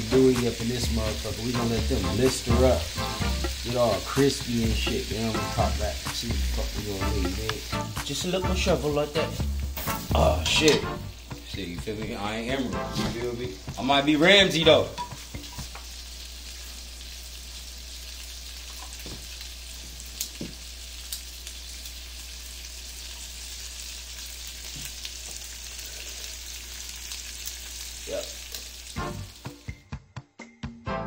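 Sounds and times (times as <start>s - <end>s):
sausage sizzling in frying pan: 0.0s - 29.8s.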